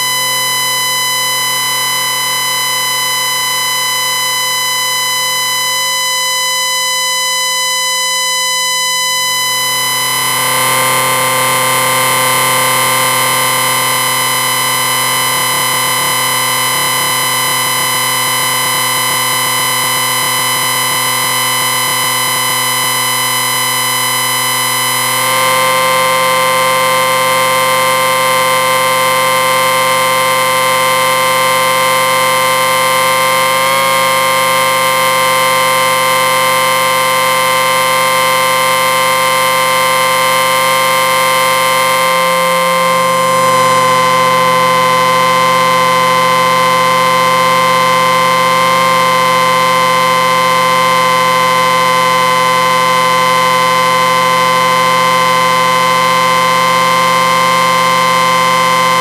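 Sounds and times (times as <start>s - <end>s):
electric ringing drone: 0.0s - 59.0s.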